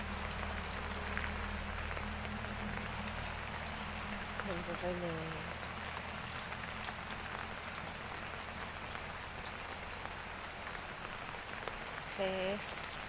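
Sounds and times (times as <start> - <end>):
heavy rain falling: 0.0 - 13.0
rain drops ticking: 0.0 - 13.0.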